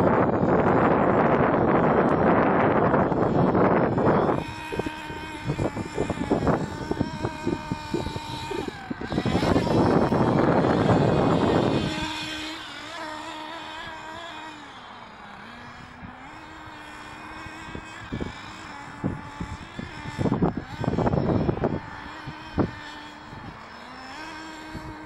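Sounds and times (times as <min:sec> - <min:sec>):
small glow engine running: 0:00.0 - 0:25.0.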